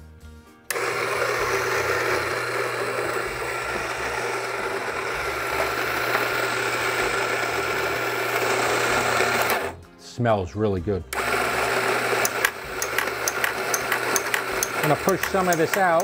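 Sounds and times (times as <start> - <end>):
coffee grinder grinding: 0.7 - 9.8, 11.2 - 16.0.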